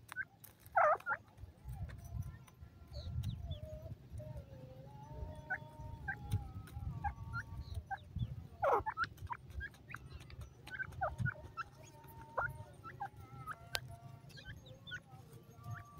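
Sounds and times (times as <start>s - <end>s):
bird chirps: 0.0s - 15.9s.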